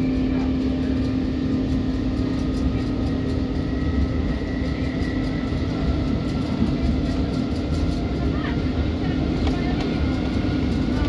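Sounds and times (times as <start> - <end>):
train rumbling from inside carriage: 0.0 - 11.0.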